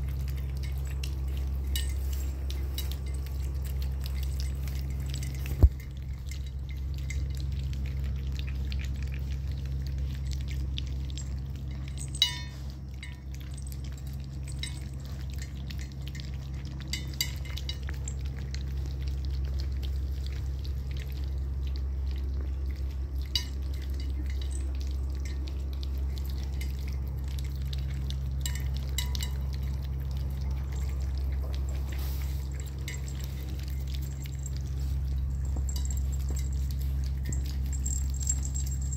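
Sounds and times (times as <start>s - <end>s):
low hum: 0.0s - 38.9s
puppies lapping and slurping: 0.0s - 38.9s.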